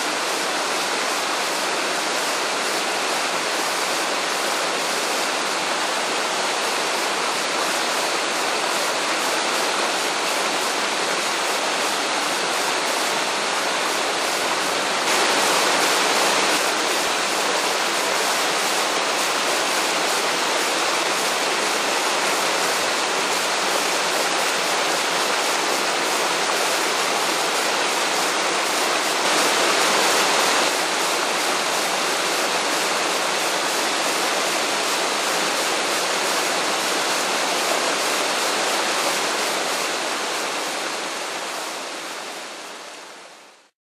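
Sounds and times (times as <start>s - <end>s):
waterfall rushing: 0.0s - 43.7s.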